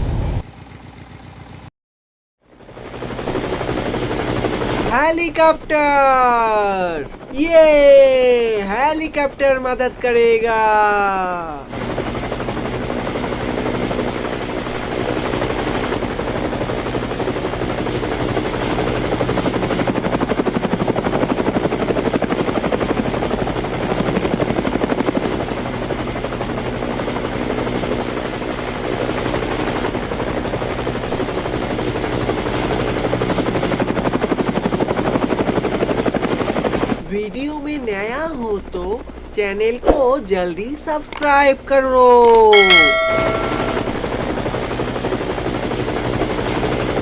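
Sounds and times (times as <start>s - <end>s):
helicopter engine droning: 2.4s - 41.7s, 42.4s - 47.0s
helicopter rotor chop: 2.5s - 47.0s.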